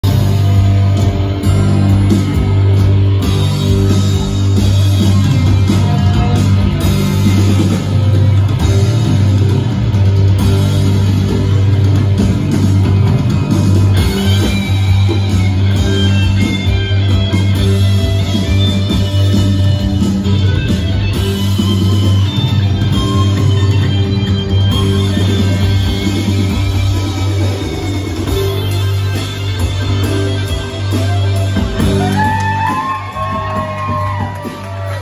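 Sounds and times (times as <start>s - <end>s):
loud guitar rock music: 0.0s - 35.0s.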